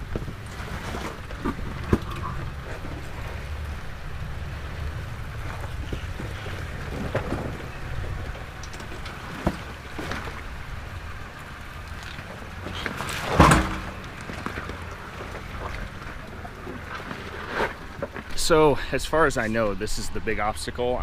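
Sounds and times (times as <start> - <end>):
vehicle rumbling on rough trail: 0.0 - 21.0.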